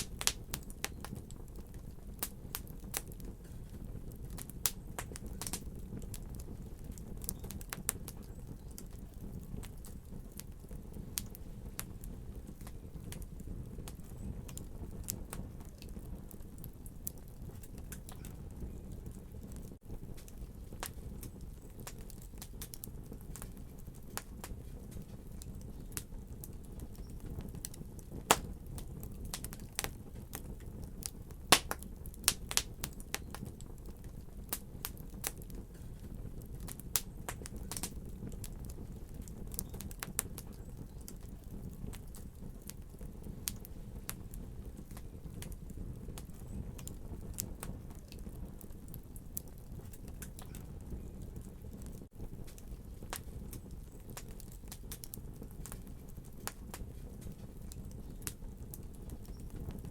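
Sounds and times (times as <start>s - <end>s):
fire popping and snapping: 0.0s - 59.9s
wood fire crackling: 0.0s - 59.9s.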